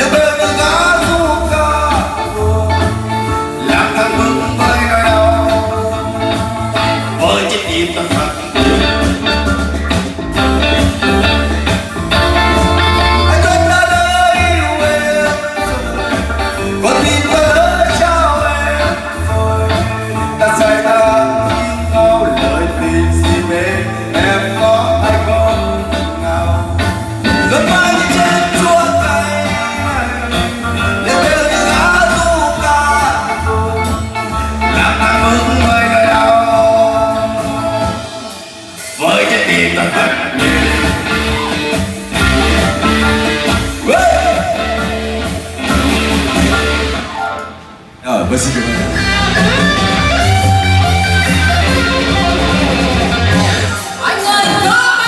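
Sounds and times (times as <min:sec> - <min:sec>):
bending melodic lead line: 0:00.0 - 0:55.0
live band instrumental: 0:00.0 - 0:55.0.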